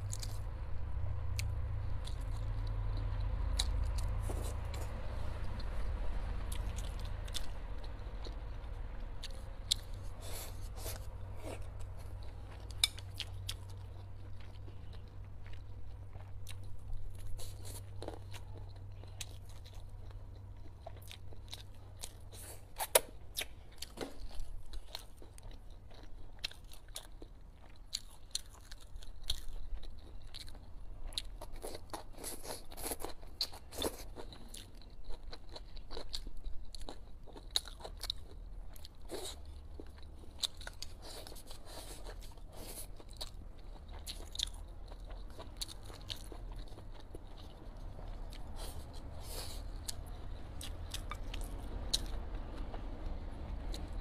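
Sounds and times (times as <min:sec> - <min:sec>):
low steady hum: 0:00.0 - 0:54.0
person chewing and crunching food: 0:00.0 - 0:54.0.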